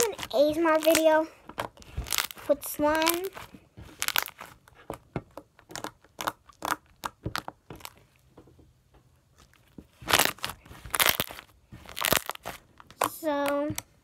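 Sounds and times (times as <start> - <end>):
hands squeezing slime: 0.0 - 8.0, 9.9 - 13.6
crackly slime squishes: 0.0 - 8.3, 9.3 - 14.0.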